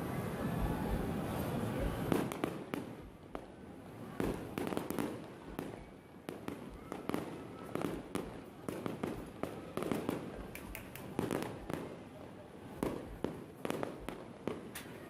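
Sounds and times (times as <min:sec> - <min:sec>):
fireworks crackling: 0:00.6 - 0:15.0
fireworks bangs: 0:01.8 - 0:15.0.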